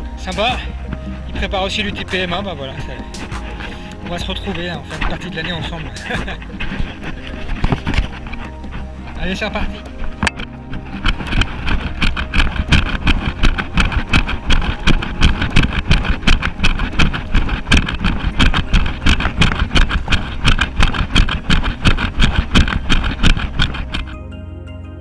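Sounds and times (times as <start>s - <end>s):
running footsteps on dirt trail: 0.0s - 24.2s
trekking poles striking dirt: 0.0s - 24.2s
wind rumble on microphone: 0.0s - 24.2s.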